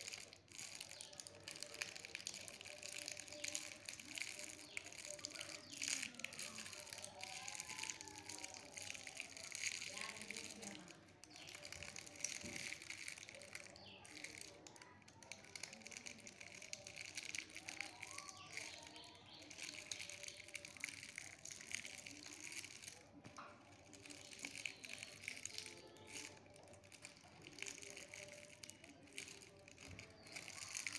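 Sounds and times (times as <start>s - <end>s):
faint voices talking: 0.0s - 30.9s.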